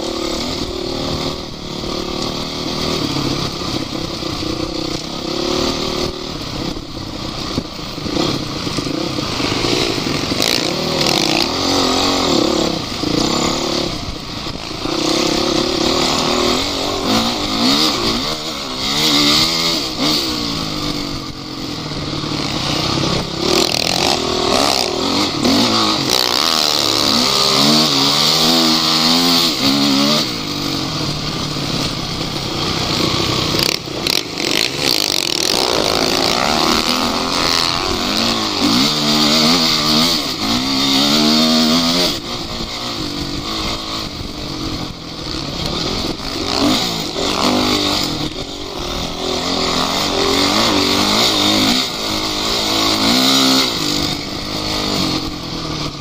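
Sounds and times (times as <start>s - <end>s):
steady rushing hiss: 0.0s - 56.0s
vehicle engine revving: 0.0s - 56.0s.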